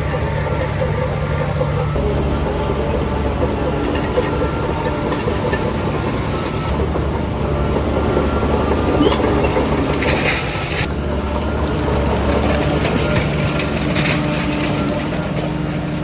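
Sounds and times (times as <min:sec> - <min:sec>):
diesel engine running: 0:00.0 - 0:16.0
steel tracks clattering and squeaking: 0:00.0 - 0:16.0.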